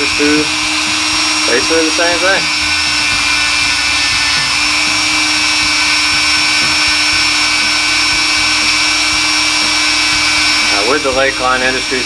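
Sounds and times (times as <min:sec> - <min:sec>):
rotary tool high whine: 0:00.0 - 0:12.0.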